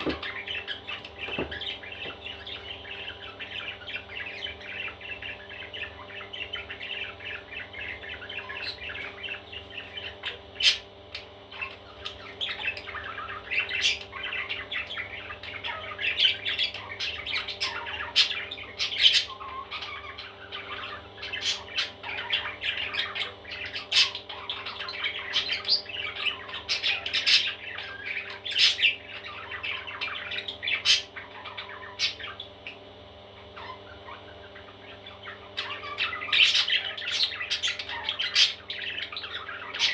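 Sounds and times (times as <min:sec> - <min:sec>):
baby parrots squawking: 0:00.0 - 0:32.8, 0:33.4 - 0:39.9.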